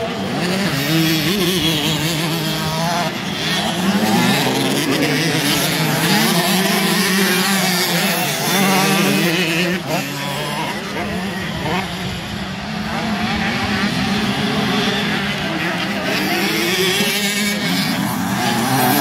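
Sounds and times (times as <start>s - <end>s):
motocross bikes racing past: 0.0s - 19.0s.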